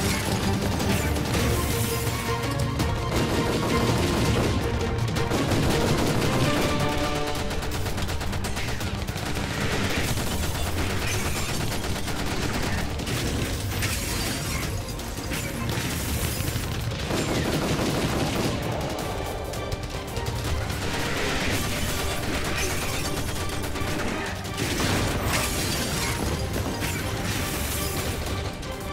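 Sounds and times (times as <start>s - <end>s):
background music: 0.0s - 28.9s
rapid gunfire: 0.0s - 28.9s.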